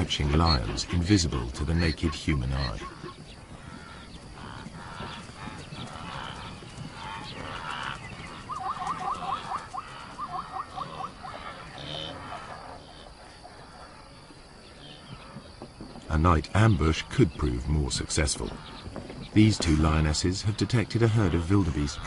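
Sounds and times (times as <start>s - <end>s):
night outdoor ambience: 0.0s - 22.0s.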